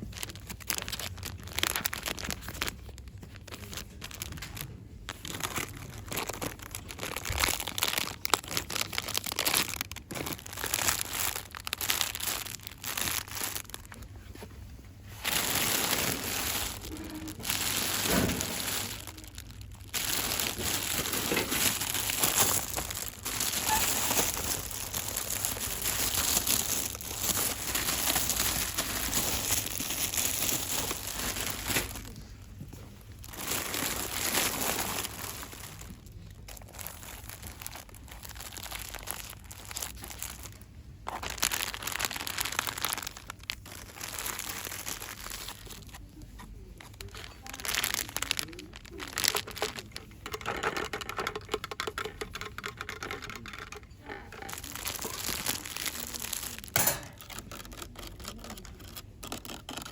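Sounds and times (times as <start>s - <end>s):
packaging crinkling and rustling: 0.0s - 59.9s.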